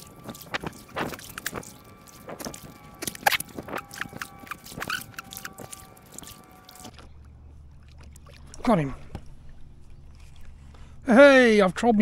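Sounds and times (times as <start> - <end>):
paddle splashing water: 0.0 - 11.0
low steady hum: 0.0 - 12.0.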